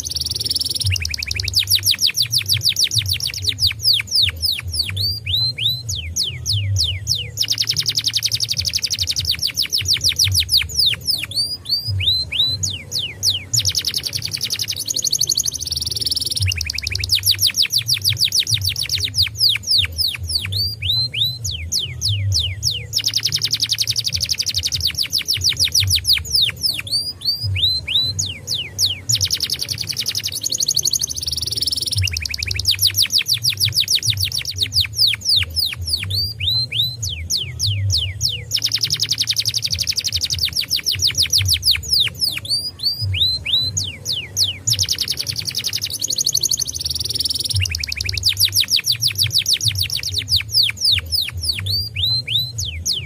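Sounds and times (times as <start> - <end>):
canary singing trills: 0.0 - 53.0
low rhythmic background music: 0.0 - 53.0.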